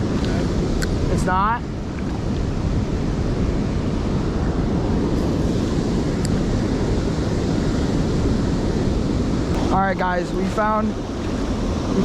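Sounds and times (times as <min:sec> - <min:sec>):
flowing river water: 0:00.0 - 0:12.0
wind buffeting microphone: 0:00.0 - 0:12.0.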